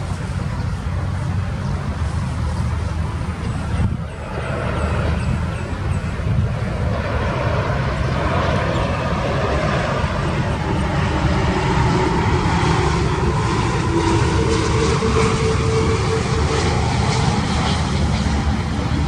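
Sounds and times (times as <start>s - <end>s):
humming engine tone: 0.0s - 19.0s
jet engine rumble and rushing: 0.0s - 19.0s.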